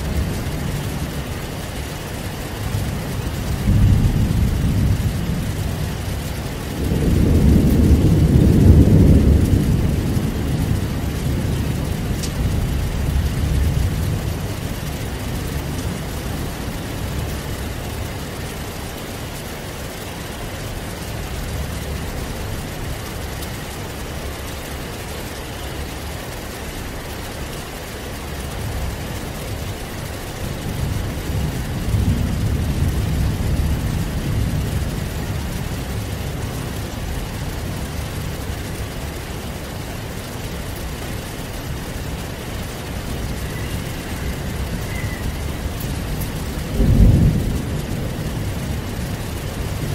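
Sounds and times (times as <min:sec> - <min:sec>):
rain hissing: 0:00.0 - 0:49.9
thunder rumbling: 0:00.0 - 0:49.9.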